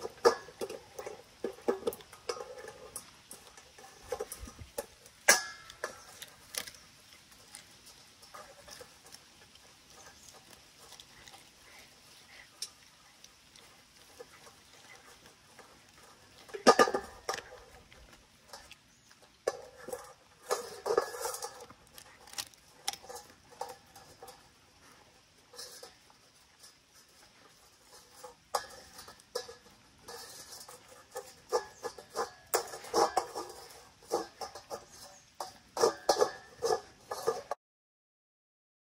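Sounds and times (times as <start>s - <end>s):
puppy chewing and licking: 0.0s - 37.5s.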